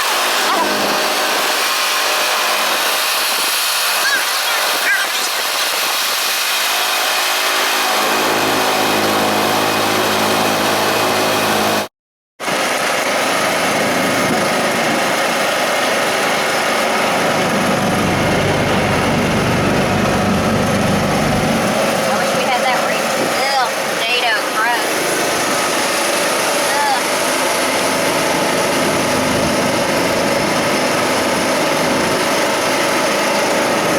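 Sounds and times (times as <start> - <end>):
constant rushing noise: 0.0 - 11.9, 12.5 - 33.9
engine running: 0.0 - 33.9.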